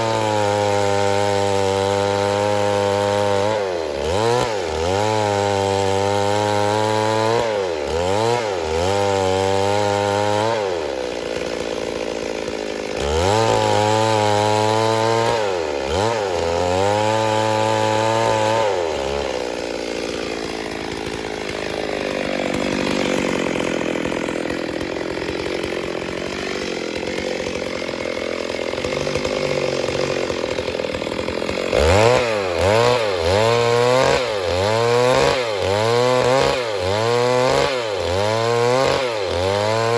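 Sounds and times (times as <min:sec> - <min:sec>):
chainsaw cutting under load: 0:00.0 - 0:39.9.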